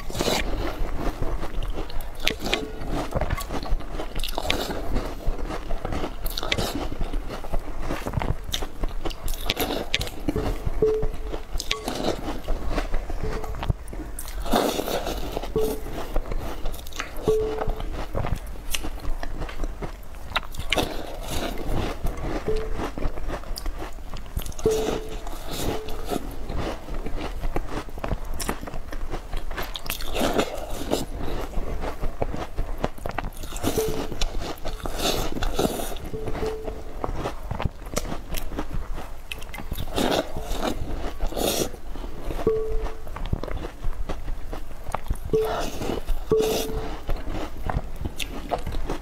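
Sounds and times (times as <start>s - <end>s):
biting and chewing cookies: 0.0s - 49.0s.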